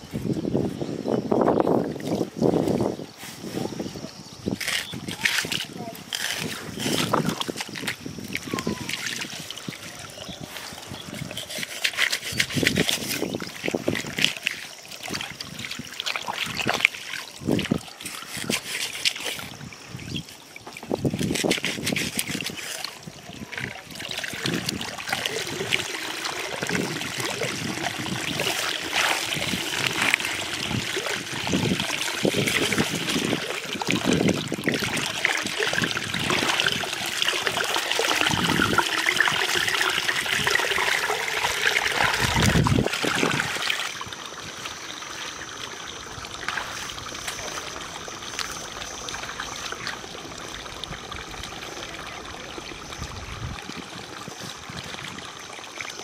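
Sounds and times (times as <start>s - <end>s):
muddy water splashing: 1.7s - 56.0s.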